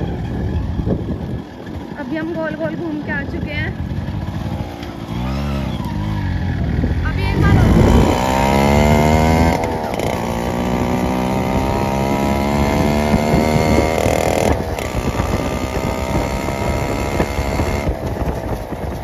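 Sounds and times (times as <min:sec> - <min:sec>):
two-stroke motorcycle exhaust: 0:00.0 - 0:19.0.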